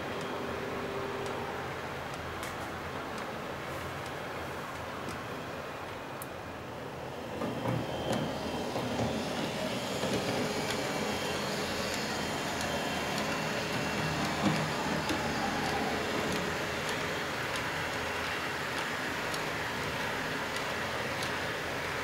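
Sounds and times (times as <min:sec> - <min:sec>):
model train wheels rumbling on rails: 0:00.0 - 0:22.0.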